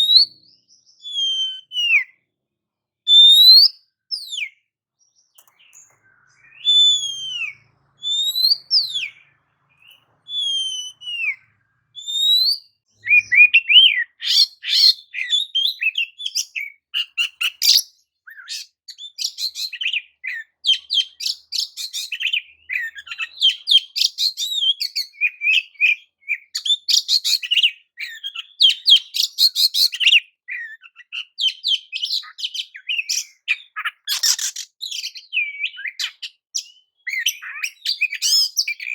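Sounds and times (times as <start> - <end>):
bird singing whistles and warbling: 0.0 - 2.3, 3.1 - 38.9.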